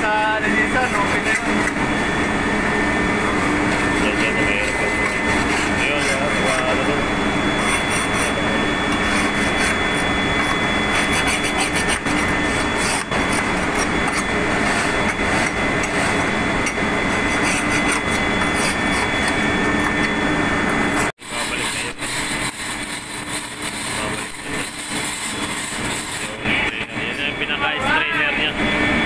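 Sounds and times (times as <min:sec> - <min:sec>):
engine room machinery drone: 0:00.0 - 0:29.0
hand tool scraping metal: 0:00.5 - 0:02.0, 0:03.6 - 0:26.8.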